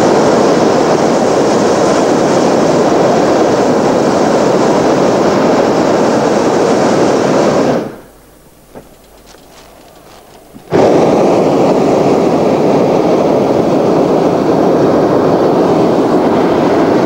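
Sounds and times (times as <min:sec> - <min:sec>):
propane burner blast: 0:00.0 - 0:17.0.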